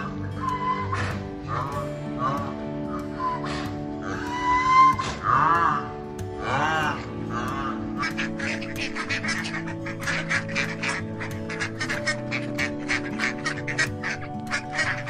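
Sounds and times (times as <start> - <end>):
background music with held notes: 0.0 - 15.0
ducks quacking: 0.0 - 15.0.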